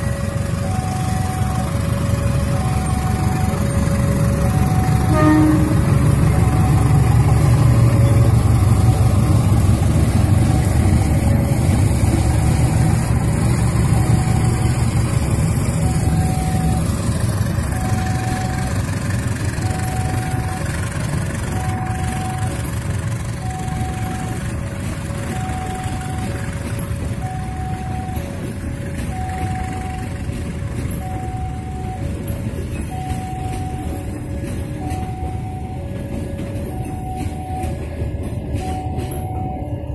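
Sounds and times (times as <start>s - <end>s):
diesel locomotive engine rumbling: 0.0s - 39.9s
level crossing warning alarm: 0.0s - 39.9s
train coaches rolling over rails: 0.0s - 39.9s.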